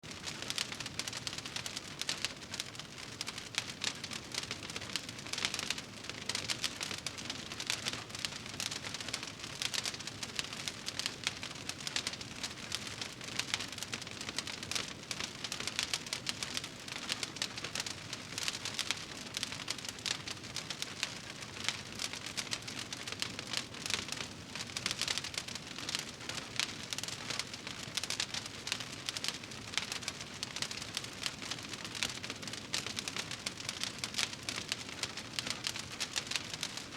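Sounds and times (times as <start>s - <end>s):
fire crackling in fireplace: 0.0s - 36.9s.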